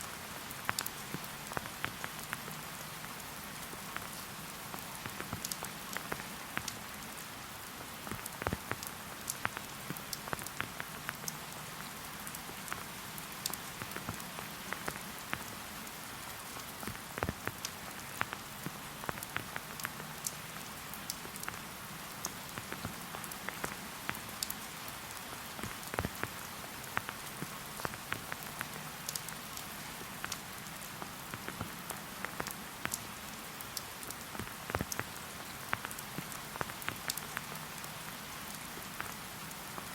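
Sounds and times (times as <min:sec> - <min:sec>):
rain drops ticking close by: 0:00.0 - 0:39.9
rain falling through forest: 0:00.0 - 0:39.9.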